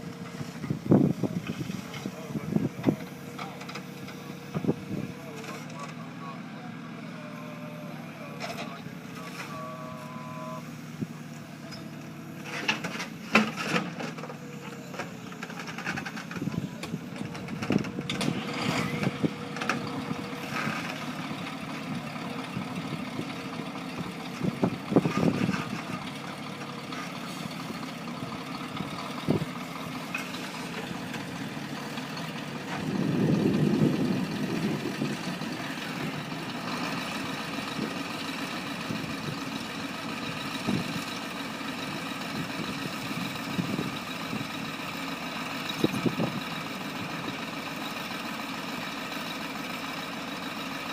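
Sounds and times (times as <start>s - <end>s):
heavy machine engine running: 0.0s - 50.9s.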